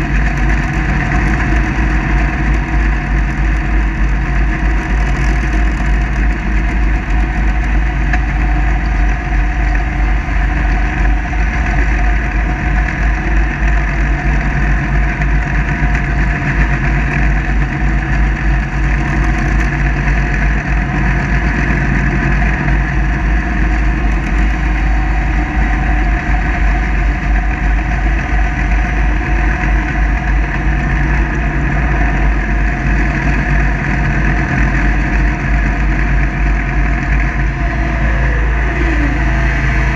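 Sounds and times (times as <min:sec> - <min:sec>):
ride-on mower engine running: 0:00.0 - 0:39.9.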